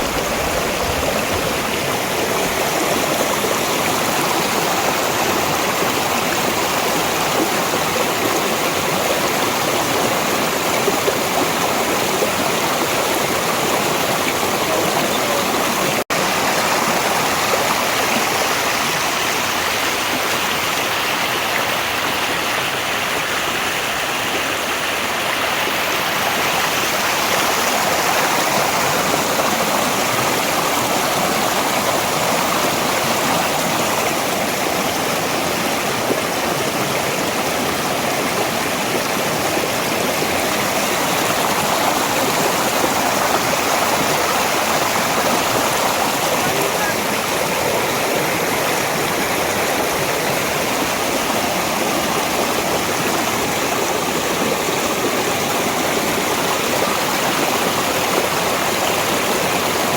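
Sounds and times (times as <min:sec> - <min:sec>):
stream flowing water: 0:00.0 - 0:59.9.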